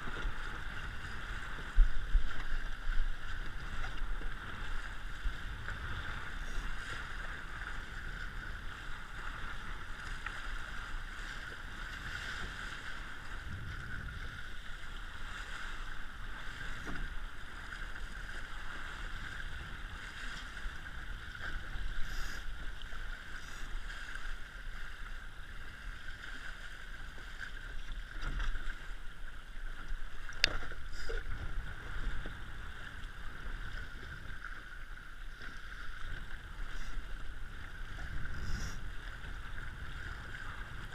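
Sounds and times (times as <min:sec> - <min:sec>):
wind on microphone: 0:00.0 - 0:28.9, 0:29.8 - 0:40.9
water rushing along hull: 0:00.0 - 0:40.9.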